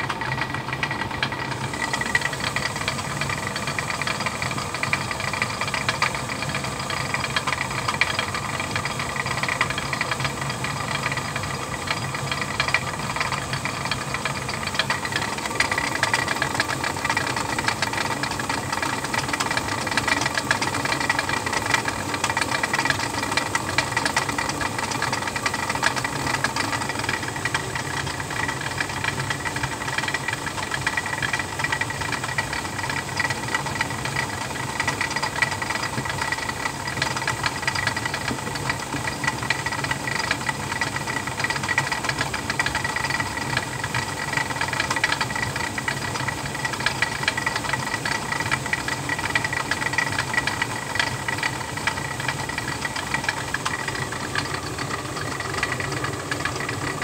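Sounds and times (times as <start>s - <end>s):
stone mill grinding grain: 0.0s - 57.0s.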